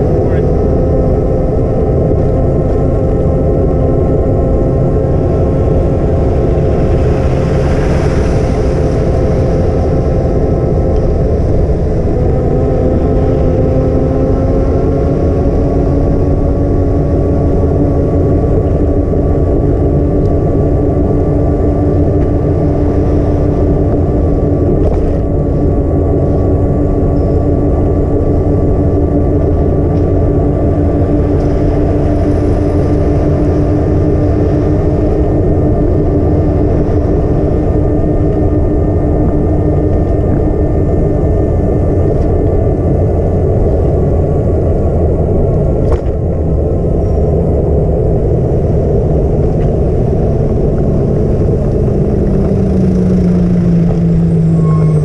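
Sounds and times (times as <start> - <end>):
truck machinery droning: 0.0 - 55.0.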